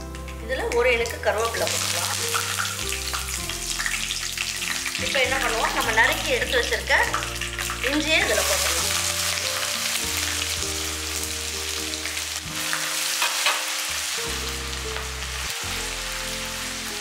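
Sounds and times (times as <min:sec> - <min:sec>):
background music: 0:00.0 - 0:17.0
ginger sizzling in oil: 0:00.0 - 0:17.0.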